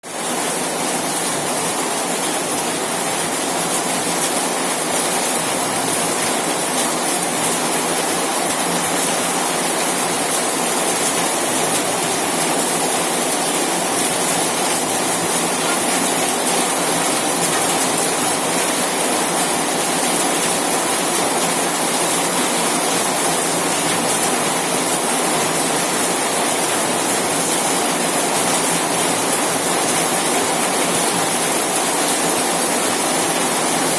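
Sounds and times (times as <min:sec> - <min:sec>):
rain on a metal roof: 0:00.0 - 0:33.9.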